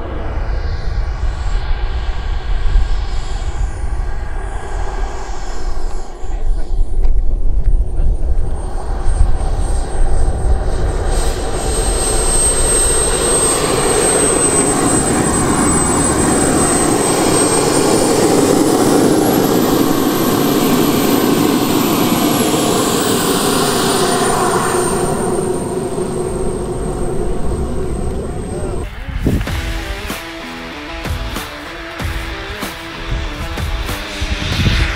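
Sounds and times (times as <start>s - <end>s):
heavy low rumble: 0.0s - 34.9s
turbine engine roar and whine: 0.0s - 34.9s.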